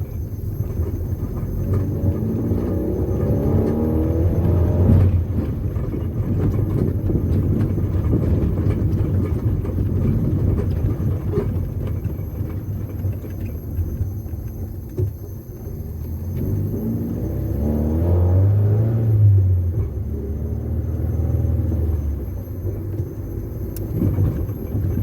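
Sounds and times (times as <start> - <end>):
car engine accelerating: 0.0 - 25.0
road noise: 0.0 - 25.0.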